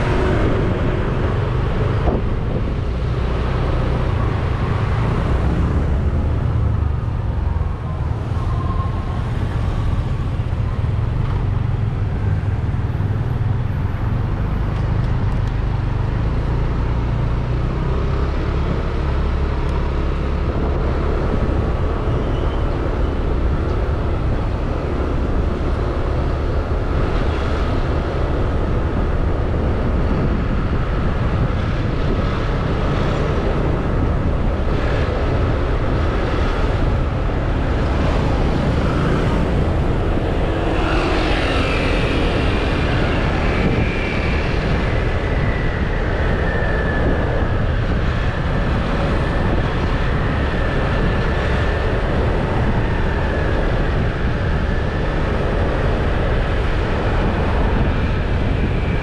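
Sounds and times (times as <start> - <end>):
road noise from riding scooter: 0.0 - 59.0
wind buffeting microphone: 0.0 - 59.0.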